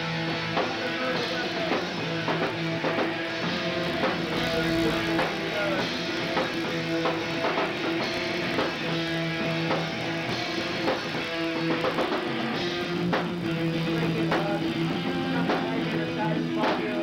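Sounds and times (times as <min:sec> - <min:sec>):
distorted electric guitars: 0:00.0 - 0:17.0
drums: 0:00.0 - 0:17.0.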